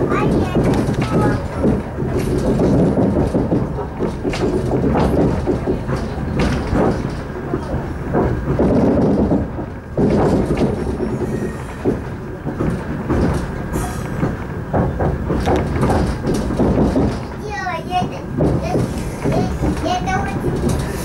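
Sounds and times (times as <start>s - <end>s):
train wheels rumbling on rail: 0.0s - 21.0s
wheels clacking over rail joints: 0.0s - 21.0s.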